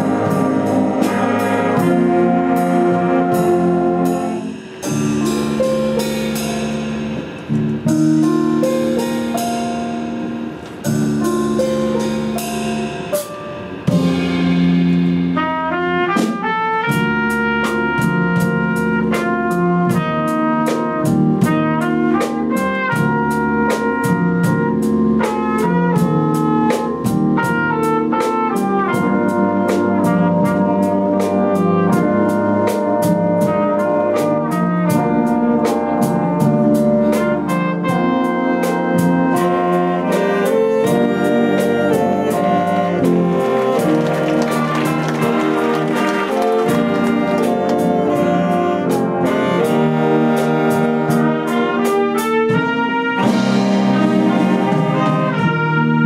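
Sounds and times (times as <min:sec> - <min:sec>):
bass: 0:00.0 - 0:56.0
drum kit beat: 0:00.0 - 0:56.0
saxophone and brass chords: 0:00.0 - 0:56.0.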